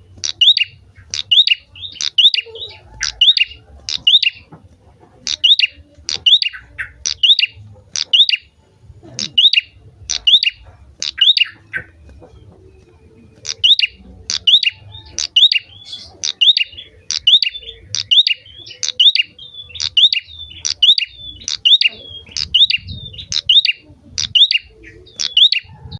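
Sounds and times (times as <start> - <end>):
bird singing sharp high chirps: 0.0 - 4.5, 5.2 - 8.6, 9.2 - 12.0, 13.4 - 25.9.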